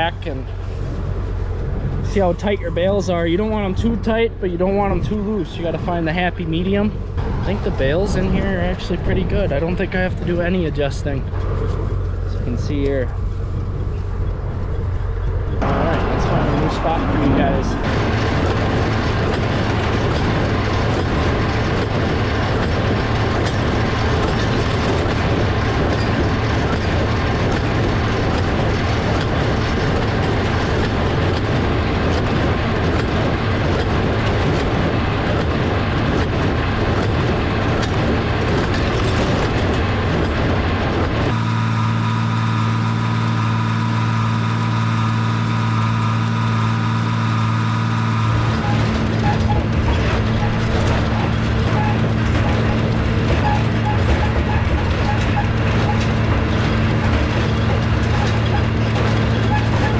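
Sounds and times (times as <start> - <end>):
hay baler working: 0.0 - 59.9
tractor engine running: 0.0 - 59.9.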